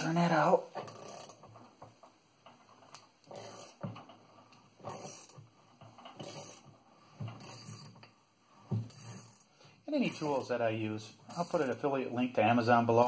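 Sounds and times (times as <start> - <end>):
wrench scraping and clicking on metal: 0.7 - 10.6, 11.2 - 12.0.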